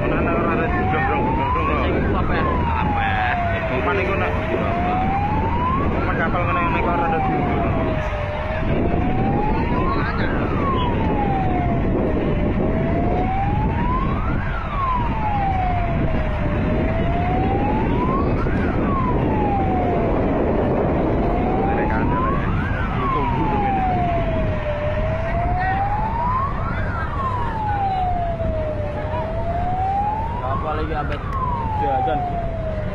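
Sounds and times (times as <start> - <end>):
emergency vehicle siren wailing: 0.0 - 32.9
loud steady rumble: 0.0 - 32.9.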